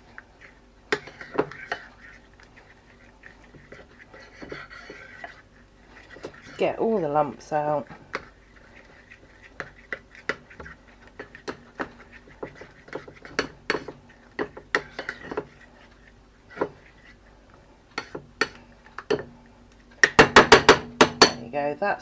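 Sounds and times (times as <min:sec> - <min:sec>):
utensil stirring batter in bowl: 0:00.0 - 0:21.7.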